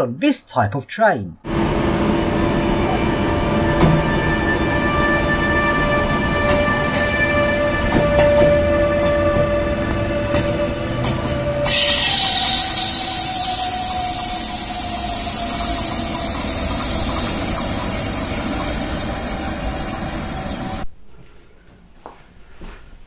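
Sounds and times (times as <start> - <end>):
train running with falling whine: 1.5 - 20.9.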